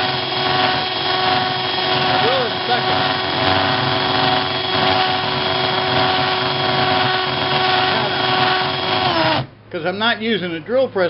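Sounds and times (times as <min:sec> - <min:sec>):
electric drill boring glass: 0:00.0 - 0:09.5.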